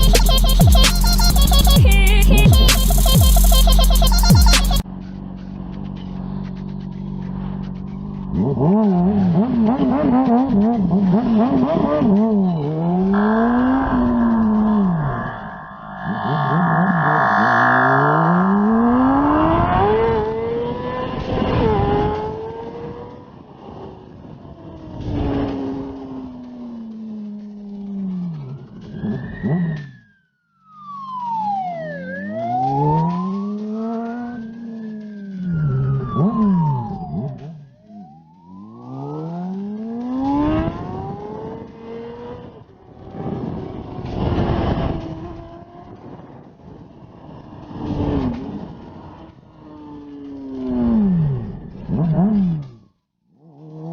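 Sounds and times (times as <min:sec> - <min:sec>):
vehicle engine accelerating: 0:00.0 - 0:30.1, 0:31.0 - 0:53.9.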